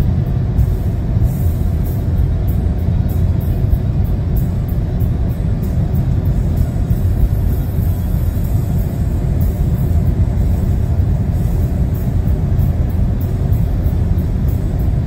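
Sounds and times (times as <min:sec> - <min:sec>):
loud low rumble in car cabin: 0:00.0 - 0:15.0.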